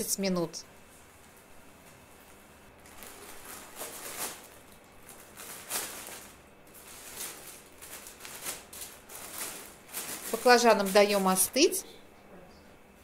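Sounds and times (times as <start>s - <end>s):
plastic bag crinkling: 0.8s - 11.8s.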